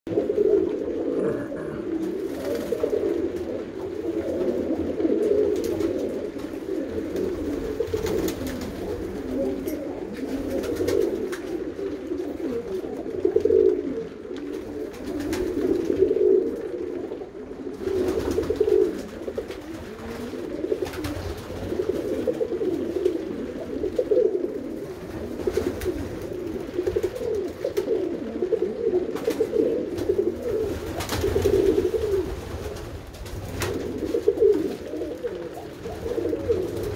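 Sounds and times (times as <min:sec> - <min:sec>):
pigeons cooing: 0:00.1 - 0:36.9.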